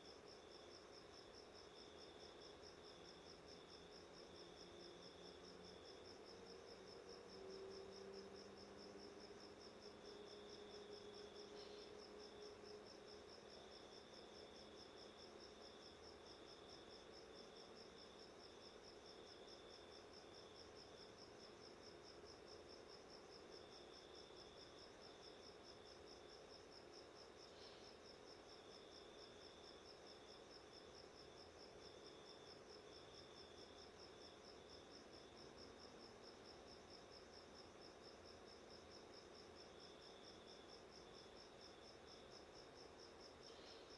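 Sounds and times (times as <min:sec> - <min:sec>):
lower insect chirp: 0:00.0 - 0:43.9.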